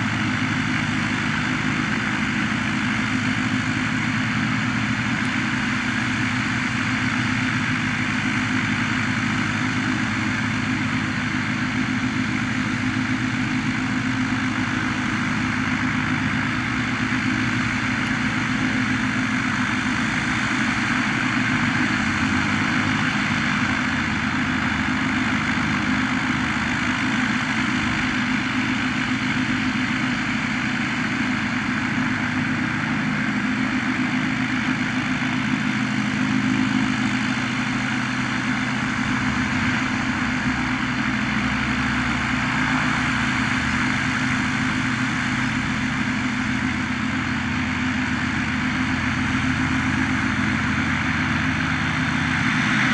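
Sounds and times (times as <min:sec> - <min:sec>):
propeller engine droning: 0:00.0 - 0:52.9.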